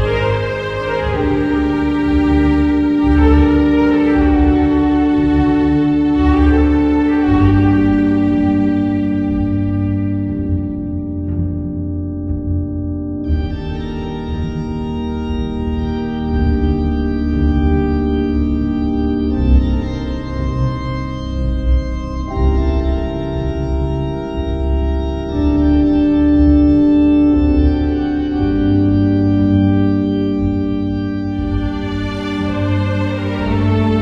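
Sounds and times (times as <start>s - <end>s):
organ-like held chords: 0.0s - 34.0s.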